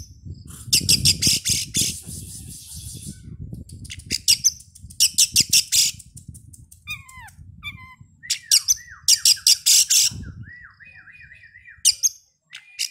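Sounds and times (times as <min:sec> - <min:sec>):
songbird singing: 0:00.0 - 0:12.9.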